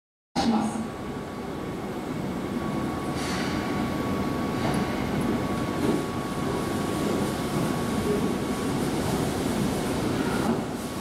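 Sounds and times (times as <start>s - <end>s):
electric train rumbling: 0.4s - 11.0s
high train whine: 0.4s - 11.0s.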